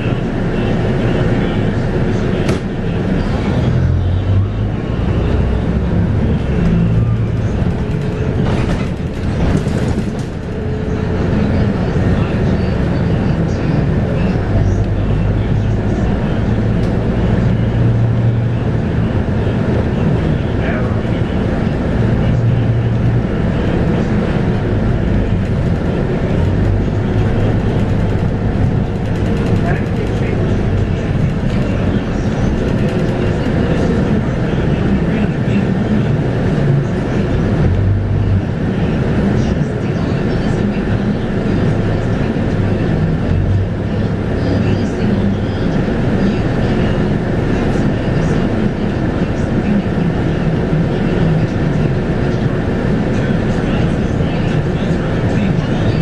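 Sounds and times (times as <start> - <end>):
bus body rattles: 0.0 - 56.0
diesel bus engine from inside: 0.0 - 56.0.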